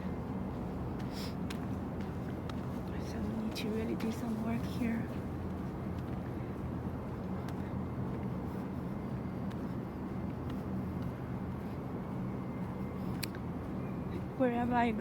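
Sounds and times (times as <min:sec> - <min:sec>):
faint hum: 0:00.0 - 0:15.0
low outdoor rumble: 0:00.0 - 0:15.0.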